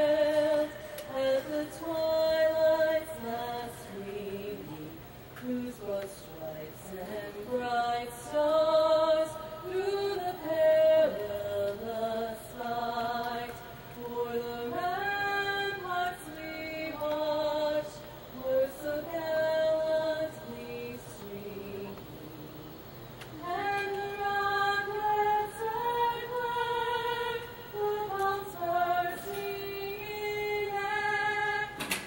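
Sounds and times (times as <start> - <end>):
person singing anthem unaccompanied: 0.0 - 32.0.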